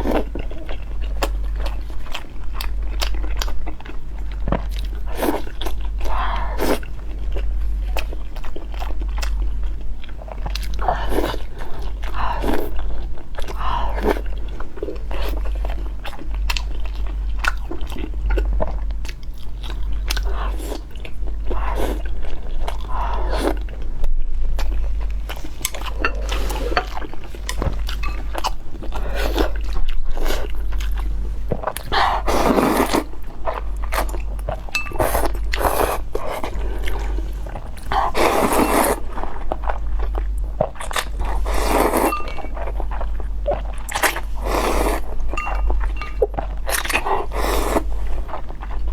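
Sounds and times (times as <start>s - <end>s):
person chewing and crunching food: 0.0s - 48.9s.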